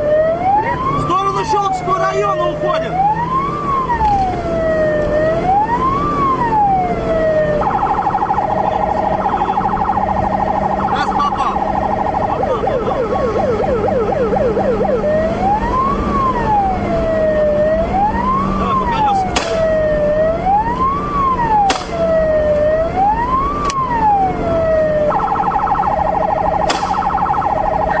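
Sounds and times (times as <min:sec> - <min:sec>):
car engine and road noise: 0:00.0 - 0:28.0
police siren: 0:00.0 - 0:28.0.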